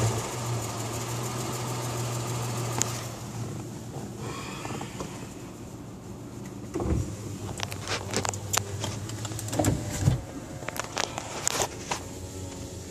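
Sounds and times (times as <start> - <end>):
car engine humming: 0.0 - 12.9.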